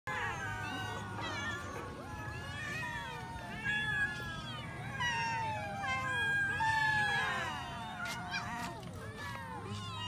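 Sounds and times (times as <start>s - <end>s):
many cats meowing: 0.1s - 10.0s.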